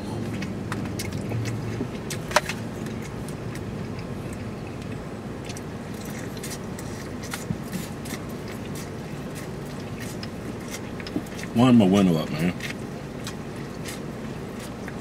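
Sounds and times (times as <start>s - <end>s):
chewing corn on the cob: 0.0s - 15.0s
low car cabin hum: 0.0s - 15.0s.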